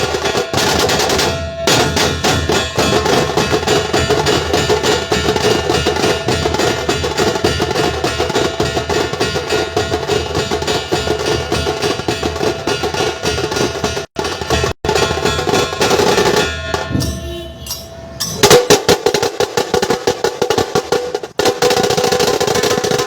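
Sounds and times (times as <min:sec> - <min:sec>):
big dhol drums: 0:00.0 - 0:23.0
cracking tasha drum strokes: 0:00.0 - 0:23.0.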